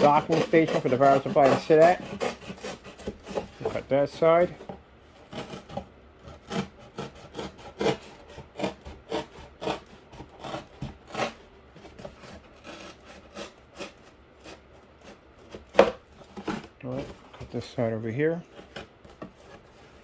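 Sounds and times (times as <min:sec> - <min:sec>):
knife sawing through cardboard: 0:00.0 - 0:20.0.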